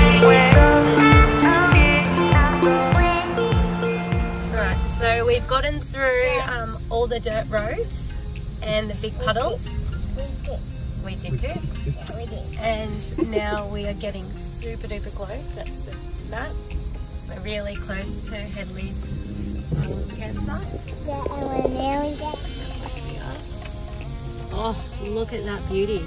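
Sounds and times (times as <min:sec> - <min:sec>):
cicadas droning: 0:00.2 - 0:26.0.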